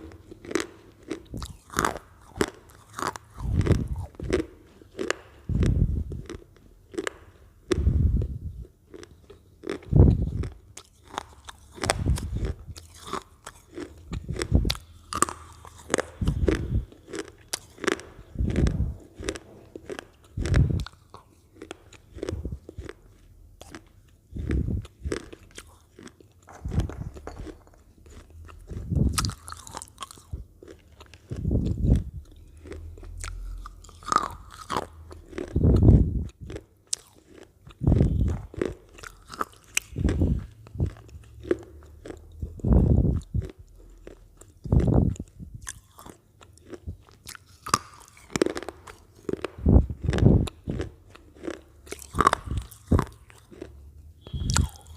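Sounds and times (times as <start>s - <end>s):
potato chips crunching: 0.0s - 7.3s, 8.9s - 54.9s.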